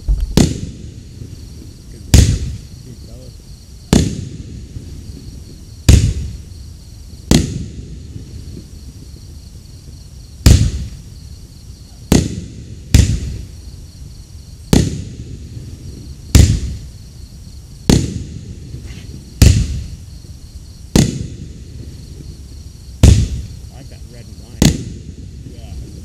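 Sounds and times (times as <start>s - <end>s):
fireworks bangs: 0.0s - 9.4s, 10.3s - 11.2s, 11.8s - 13.7s, 14.6s - 17.1s, 17.8s - 26.0s.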